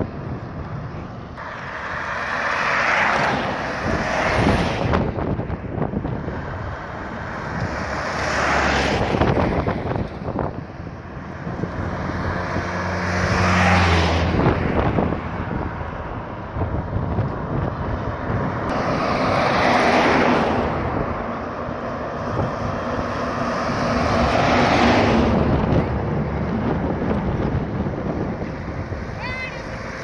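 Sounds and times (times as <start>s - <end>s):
vehicle engine and road noise: 0.0s - 30.0s
wind rushing over microphone: 0.0s - 30.0s.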